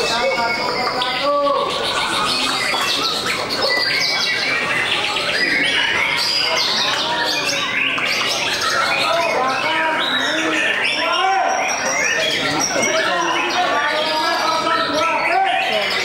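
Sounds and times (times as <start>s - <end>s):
songbirds chorus: 0.0s - 16.0s.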